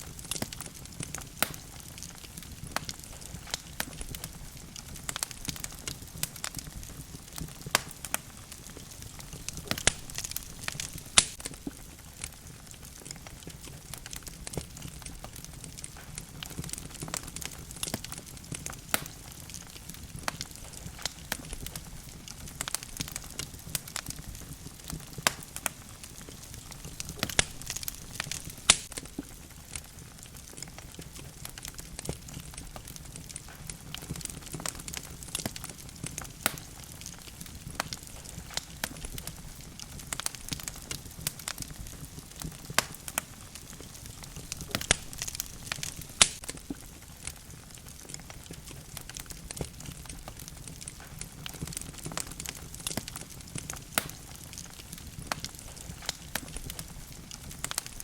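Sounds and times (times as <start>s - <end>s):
fire crackling and popping: 0.0s - 58.0s
low rush of flame: 0.0s - 58.0s.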